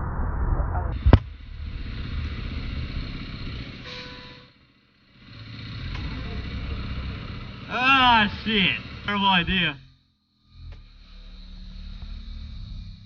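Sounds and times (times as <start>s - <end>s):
dirt bike engine idling: 1.3s - 13.0s.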